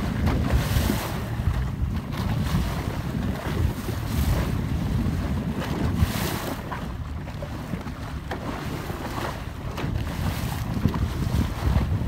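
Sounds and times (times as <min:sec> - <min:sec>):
sea water washing along boat: 0:00.0 - 0:12.0
wind buffeting microphone: 0:00.0 - 0:12.0.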